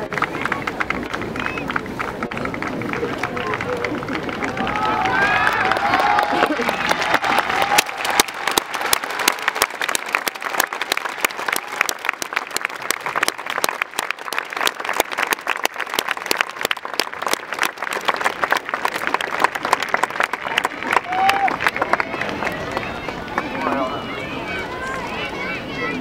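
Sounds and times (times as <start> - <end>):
crowd clapping: 0.0 - 25.9
crowd noise: 0.0 - 26.0.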